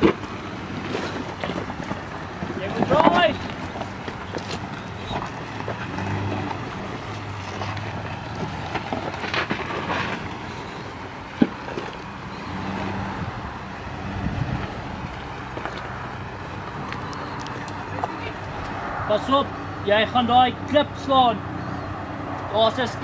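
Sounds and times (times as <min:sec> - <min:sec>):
tyres crunching over stones: 0:00.0 - 0:18.8
truck engine at low crawl: 0:00.0 - 0:23.0.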